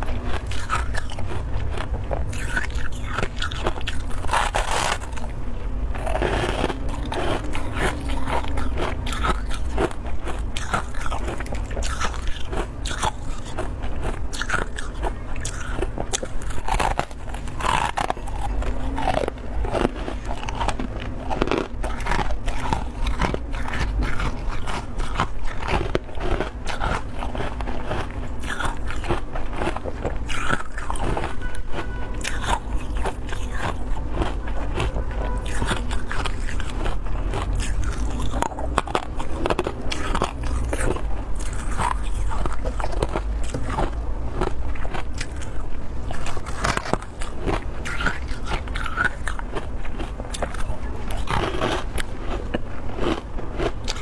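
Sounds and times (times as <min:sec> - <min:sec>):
crunching and chewing frost: 0:00.0 - 0:54.0
steady low hum: 0:00.0 - 0:54.0.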